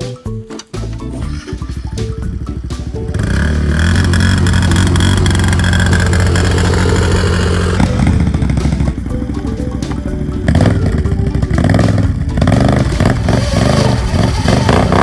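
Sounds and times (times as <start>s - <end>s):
atv engine droning: 0.8s - 15.0s.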